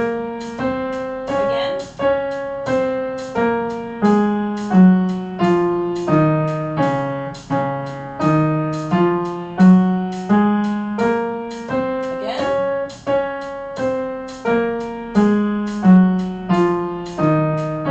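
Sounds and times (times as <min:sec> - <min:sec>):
piano playing a scale: 0:00.0 - 0:17.9.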